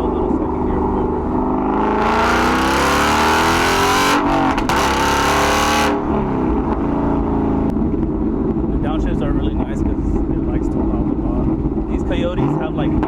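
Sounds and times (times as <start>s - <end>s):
car engine accelerating: 0.0s - 13.0s
exhaust rumble: 0.0s - 13.0s.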